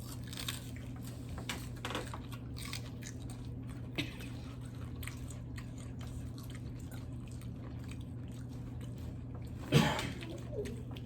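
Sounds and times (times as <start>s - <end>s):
chips being chewed: 0.0s - 11.0s.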